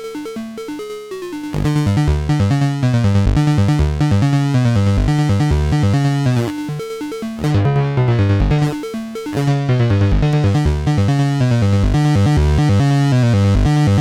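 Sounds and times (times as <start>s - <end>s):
synthesizer bass line: 1.6s - 14.0s.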